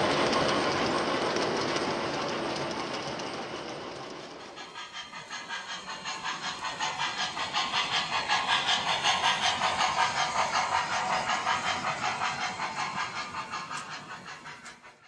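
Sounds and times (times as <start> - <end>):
model steam locomotive chuffing: 0.0 - 15.0
model train wheels on track: 0.0 - 15.0.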